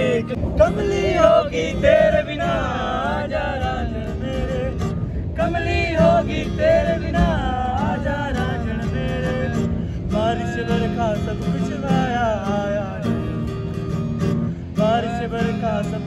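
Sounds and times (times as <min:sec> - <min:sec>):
man singing: 0:00.0 - 0:13.3, 0:14.8 - 0:16.0
strummed acoustic guitar: 0:00.0 - 0:16.0.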